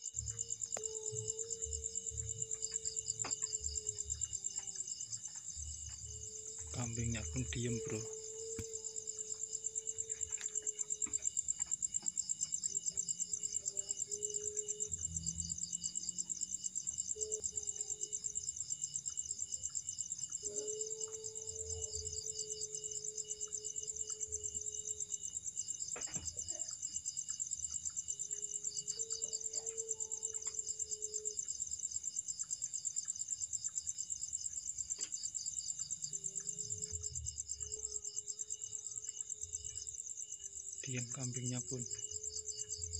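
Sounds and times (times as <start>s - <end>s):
crickets trilling: 0.0s - 42.9s.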